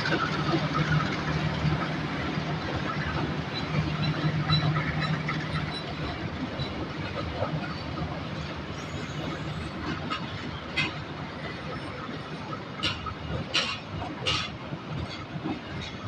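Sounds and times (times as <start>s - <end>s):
carriages rolling rumble: 0.0s - 16.0s
locomotive engine hum: 0.0s - 16.0s.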